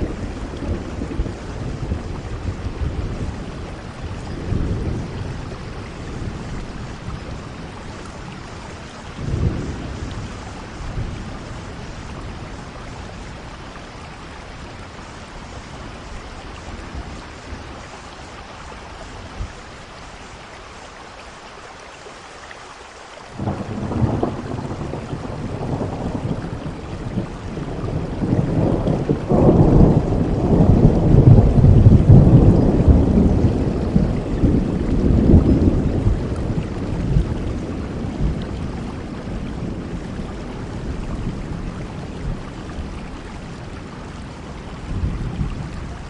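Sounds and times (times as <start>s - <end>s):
thunder rumbling: 0.0s - 18.0s, 23.4s - 46.0s
steady rainfall: 0.0s - 46.0s.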